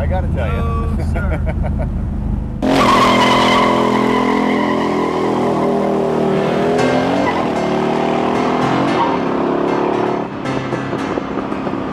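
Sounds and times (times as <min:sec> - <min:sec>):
car engine droning: 0:00.0 - 0:11.9.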